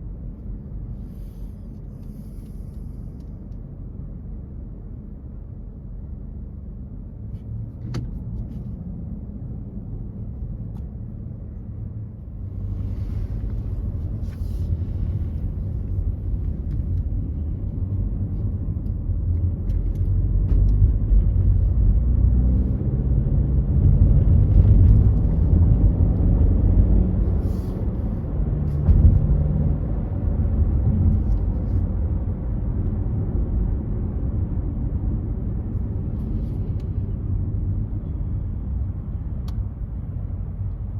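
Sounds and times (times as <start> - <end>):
car road rumble: 0.0 - 40.9.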